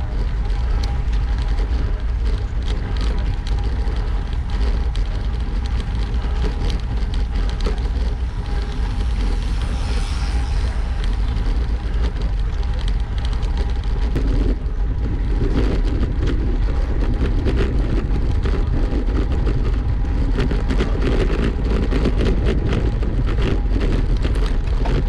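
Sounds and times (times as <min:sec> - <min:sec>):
bicycle tyre and road noise: 0:00.0 - 0:25.0
small clicks and rattles: 0:00.0 - 0:25.0
wind on microphone: 0:00.0 - 0:25.0.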